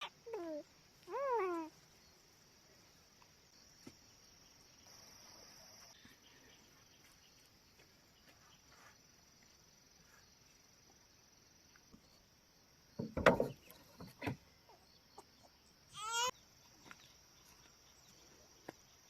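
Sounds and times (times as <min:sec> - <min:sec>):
faint high insect drone: 0:00.0 - 0:19.0.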